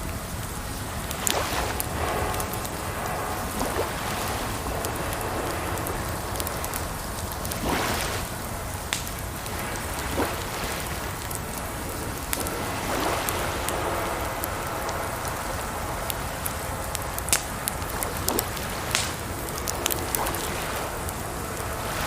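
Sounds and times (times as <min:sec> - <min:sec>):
campfire crackling: 0:00.0 - 0:22.0
fire popping: 0:00.0 - 0:22.0
rushing water: 0:00.0 - 0:22.0.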